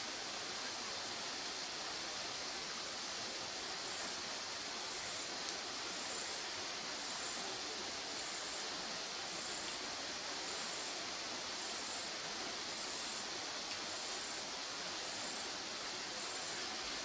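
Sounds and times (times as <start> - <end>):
wood fire hissing: 0.0 - 17.0.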